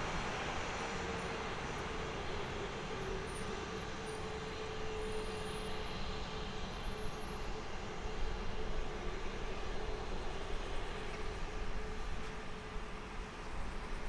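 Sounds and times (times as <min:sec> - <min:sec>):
faint steady tone: 0:00.0 - 0:14.0
jet engines running: 0:00.0 - 0:14.0.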